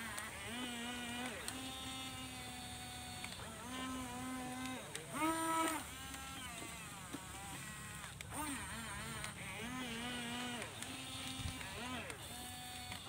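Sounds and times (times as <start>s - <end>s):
toy excavator gear motors whining: 0.0s - 13.0s.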